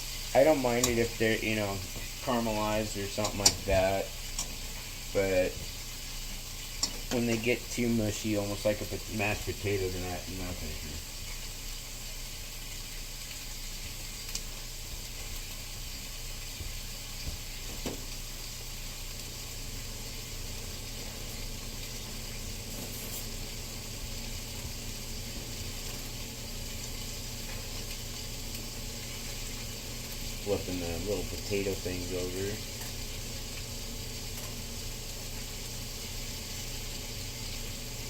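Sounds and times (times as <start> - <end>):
constant low hum: 0.0 - 38.0
potatoes sizzling in a pan: 0.0 - 38.0.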